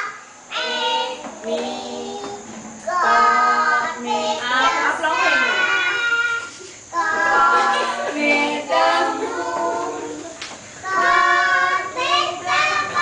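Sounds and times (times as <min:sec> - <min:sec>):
children singing unaccompanied: 0:00.0 - 0:13.0.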